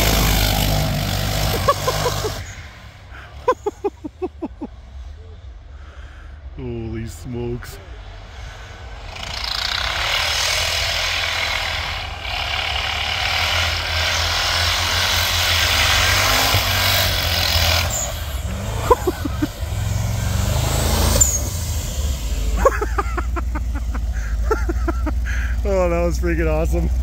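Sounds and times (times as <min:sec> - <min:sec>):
truck driving in snow: 0:00.0 - 0:27.0
truck engine rumble: 0:00.0 - 0:27.0.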